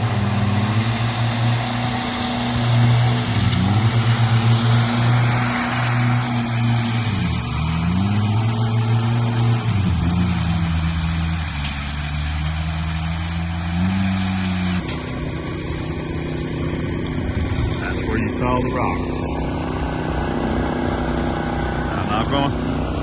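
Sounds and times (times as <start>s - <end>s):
construction machinery engine running: 0.0s - 23.0s.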